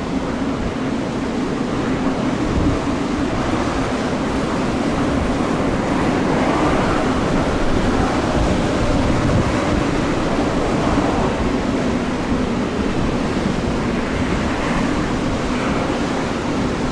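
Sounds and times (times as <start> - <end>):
aircraft engine drone: 0.0 - 16.9
storm wind buffeting microphone: 0.0 - 16.9.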